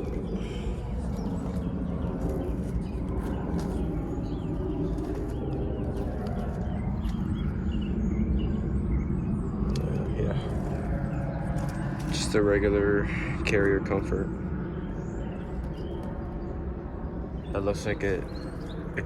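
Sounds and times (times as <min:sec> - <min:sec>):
birds chirping and cooing: 0:00.0 - 0:19.0
steady low rumble: 0:00.0 - 0:19.0.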